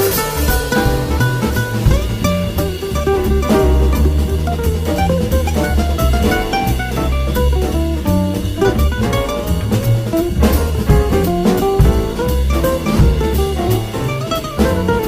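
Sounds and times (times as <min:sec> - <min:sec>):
instrumental jazz music: 0:00.0 - 0:15.0.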